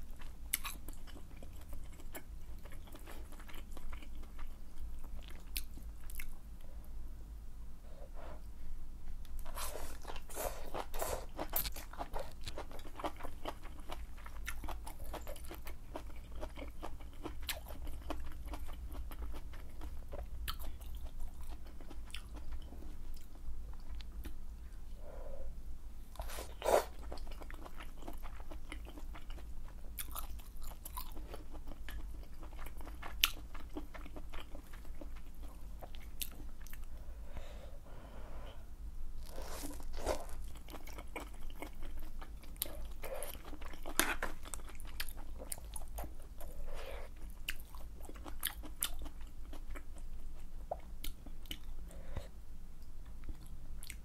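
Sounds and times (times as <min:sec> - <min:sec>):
faint low hum: 0:00.0 - 0:54.0
close chewing and biting: 0:00.2 - 0:06.4, 0:09.4 - 0:24.4, 0:26.2 - 0:36.9, 0:39.2 - 0:51.7.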